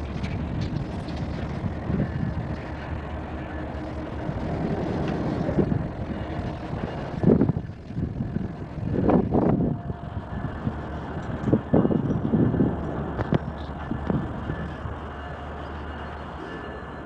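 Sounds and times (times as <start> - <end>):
traffic rumbling over bridge: 0.0 - 17.0.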